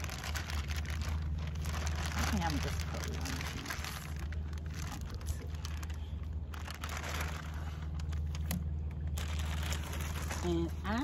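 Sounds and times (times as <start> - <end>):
plastic bag crinkling: 0.0 - 11.0
steady low rumble: 0.0 - 11.0.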